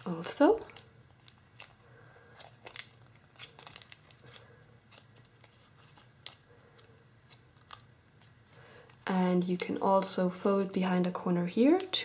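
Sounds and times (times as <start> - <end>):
foil crinkling: 0.0 - 9.8.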